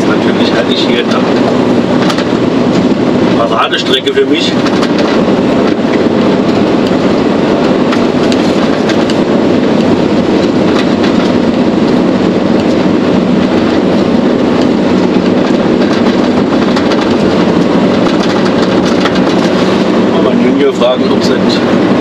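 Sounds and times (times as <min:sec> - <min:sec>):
light clicks and rattles in cab: 0:00.0 - 0:21.4
road and tyre noise: 0:00.0 - 0:22.0
truck engine drone: 0:00.0 - 0:22.0.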